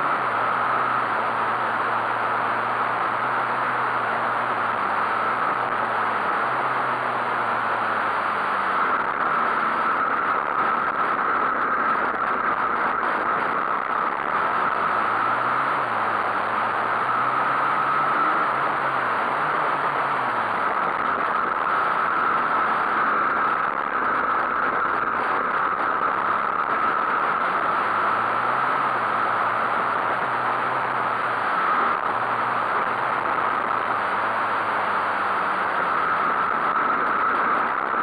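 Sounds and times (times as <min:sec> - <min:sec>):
pit bike engines revving: 0:00.0 - 0:10.8, 0:13.4 - 0:23.4, 0:25.4 - 0:37.3.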